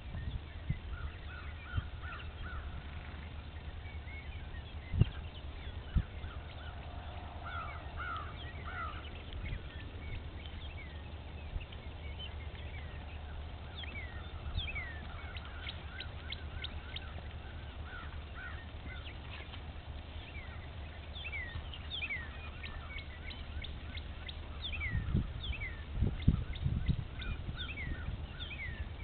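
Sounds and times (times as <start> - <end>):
birds chirping: 0.0 - 29.0
wind rumble on microphone: 0.0 - 29.0.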